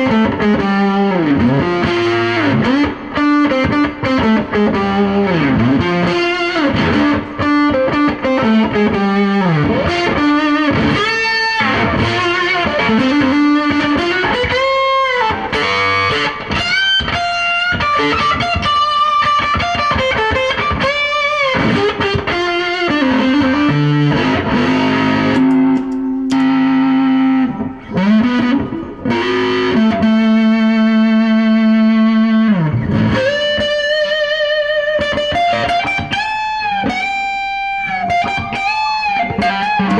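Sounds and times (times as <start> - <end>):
fuzz electric guitar lead: 0.0 - 39.9.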